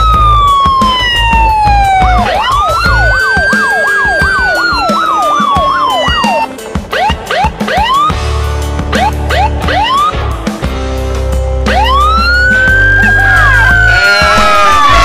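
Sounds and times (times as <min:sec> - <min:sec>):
siren fast yelp: 0:00.0 - 0:08.2, 0:09.0 - 0:10.1, 0:11.7 - 0:15.0
siren slow wail: 0:00.0 - 0:08.2, 0:09.0 - 0:10.2, 0:11.7 - 0:15.0
throbbing low beat: 0:00.0 - 0:15.0.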